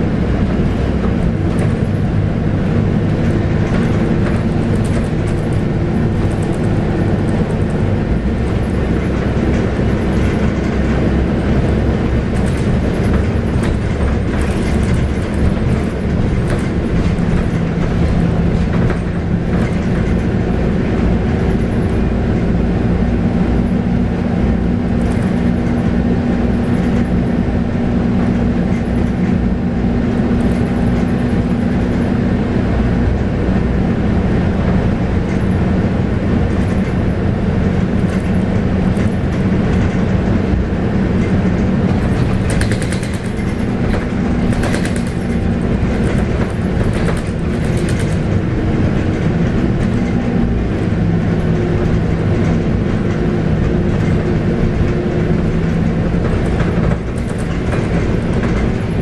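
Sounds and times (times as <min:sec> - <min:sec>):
bus diesel engine running: 0:00.0 - 0:59.0
road rumble: 0:00.0 - 0:59.0.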